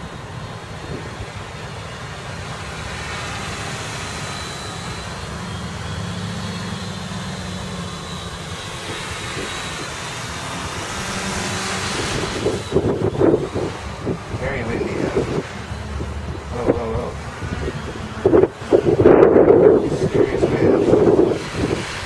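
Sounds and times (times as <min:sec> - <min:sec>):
low wind rumble: 0:00.0 - 0:22.0
quadcopter propellers whining: 0:00.0 - 0:22.0.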